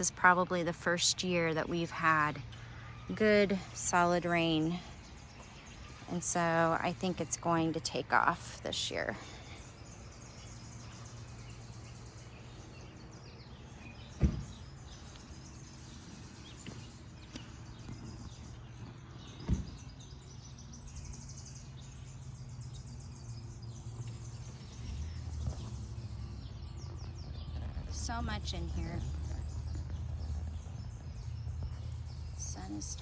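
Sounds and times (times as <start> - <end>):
birds chirping: 0.0 - 33.0
steady low hum: 0.0 - 33.0.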